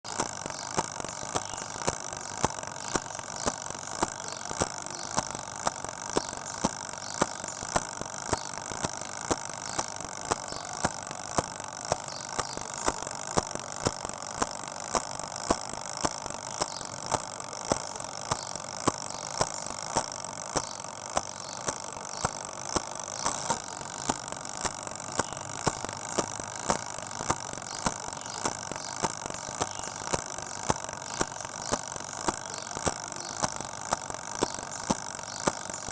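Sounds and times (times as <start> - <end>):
timer ticking: 0.0 - 35.9
steady hiss: 0.1 - 35.9.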